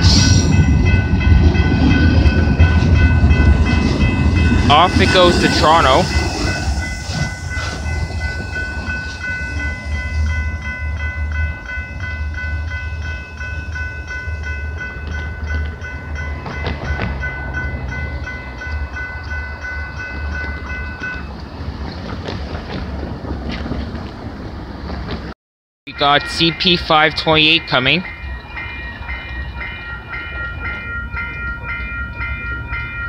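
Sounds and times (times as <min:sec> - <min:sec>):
level crossing warning bell: 0:00.0 - 0:21.6, 0:25.9 - 0:33.0
freight train rumble: 0:00.0 - 0:25.3, 0:25.9 - 0:33.0.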